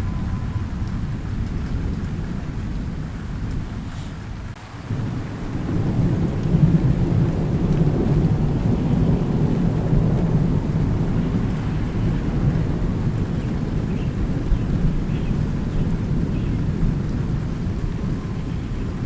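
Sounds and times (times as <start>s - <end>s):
low roll of thunder: 0.0s - 19.0s
steady rain: 0.0s - 19.0s.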